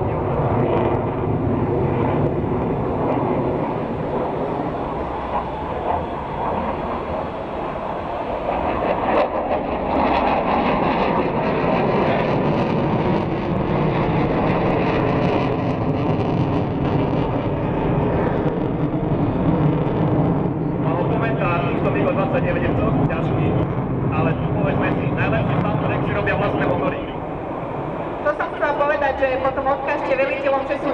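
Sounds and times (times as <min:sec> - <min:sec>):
jet engine roar overhead: 0:00.0 - 0:30.9.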